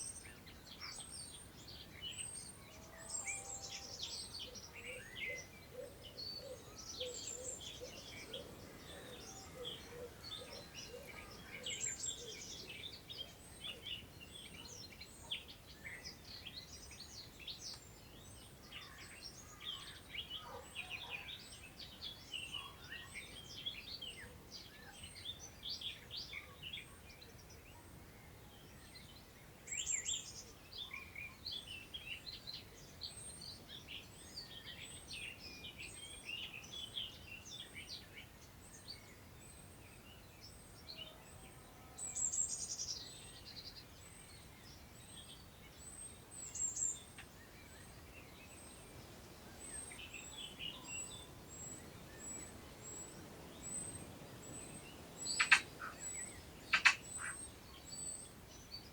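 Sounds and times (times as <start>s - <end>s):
songbirds singing: 0.0s - 58.9s
wind through grass: 0.0s - 58.9s.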